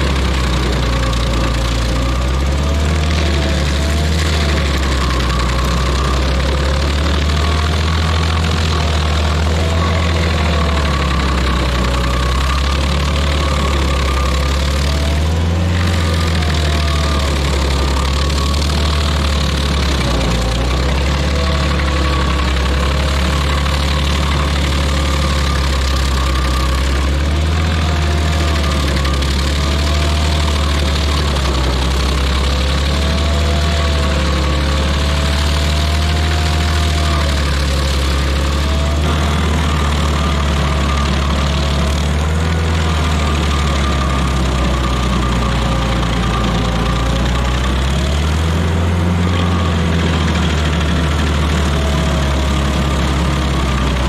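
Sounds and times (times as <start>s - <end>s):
stump grinder grinding wood: 0.0s - 54.0s.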